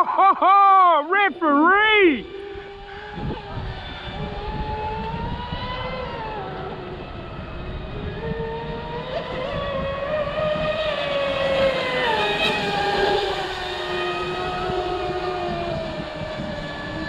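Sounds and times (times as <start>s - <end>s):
electric motors whining: 1.0s - 17.0s.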